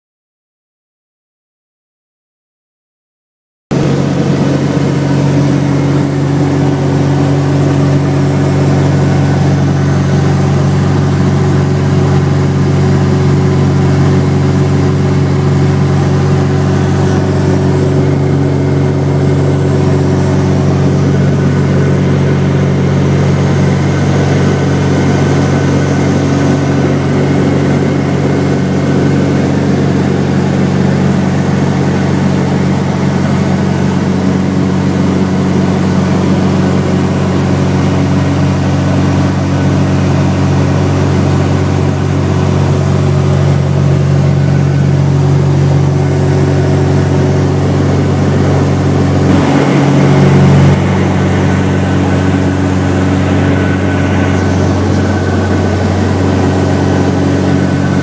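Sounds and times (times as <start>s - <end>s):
aircraft engines humming: 3.7s - 58.0s.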